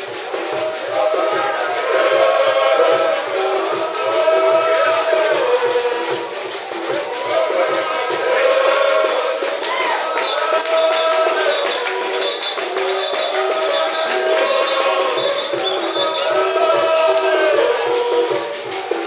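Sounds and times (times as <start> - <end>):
congregation singing a hymn: 0.0 - 19.0
rhythmic low beat: 0.0 - 19.0.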